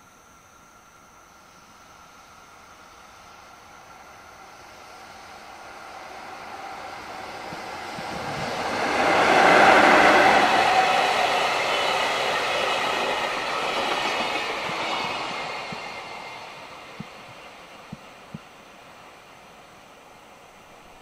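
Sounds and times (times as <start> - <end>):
freight train passing: 2.2 - 21.0.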